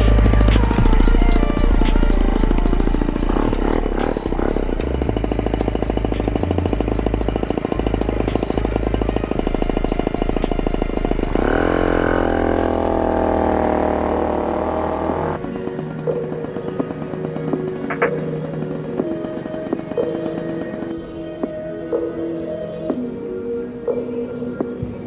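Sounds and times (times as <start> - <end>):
moped engine running: 0.0 - 23.2
background music: 0.0 - 25.0.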